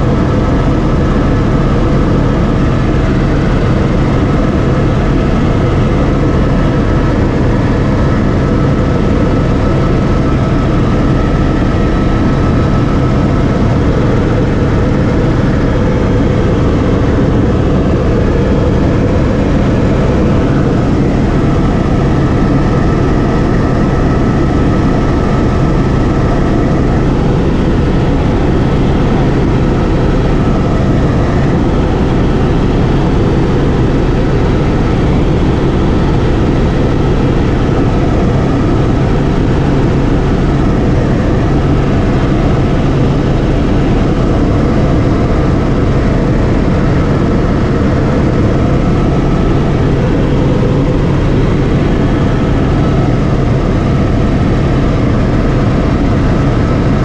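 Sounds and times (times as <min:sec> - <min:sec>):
helicopter engine and rotor hum: 0:00.0 - 0:57.0.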